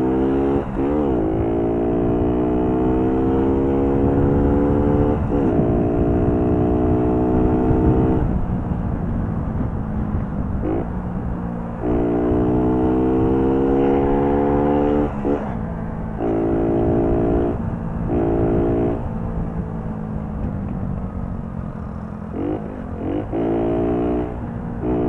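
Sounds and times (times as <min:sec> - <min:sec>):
moped engine accelerating: 0:00.0 - 0:25.0.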